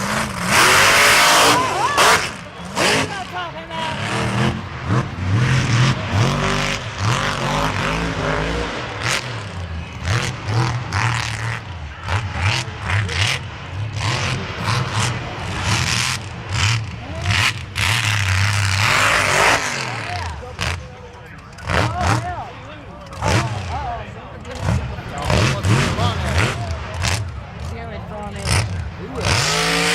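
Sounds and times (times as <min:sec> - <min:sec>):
off-road vehicle engine revving: 0:00.0 - 0:29.9
voices in background: 0:01.2 - 0:17.8, 0:18.8 - 0:29.9.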